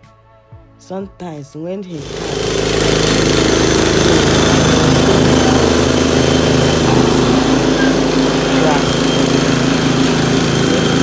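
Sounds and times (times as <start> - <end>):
lawn mower engine running: 1.9 - 11.0.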